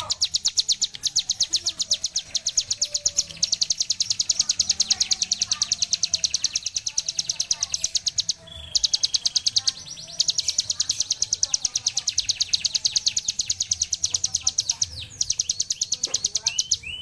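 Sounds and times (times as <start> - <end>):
bird singing rapid trill: 0.0 - 17.0.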